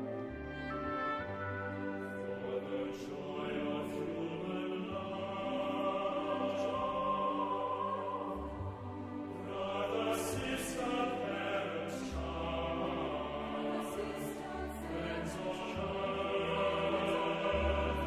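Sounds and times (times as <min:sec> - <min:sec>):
choir singing sacred piece: 0:00.0 - 0:18.0.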